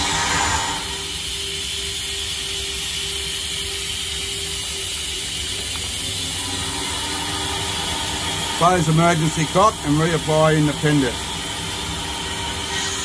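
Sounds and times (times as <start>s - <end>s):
air hissing: 0.0s - 13.0s
steady hum: 0.0s - 13.0s.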